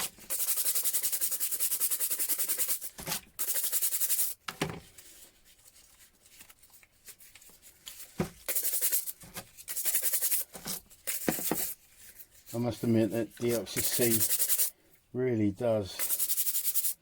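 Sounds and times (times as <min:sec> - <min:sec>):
brush scrubbing metal wrench: 0:00.0 - 0:04.4, 0:05.8 - 0:14.8, 0:15.9 - 0:17.0.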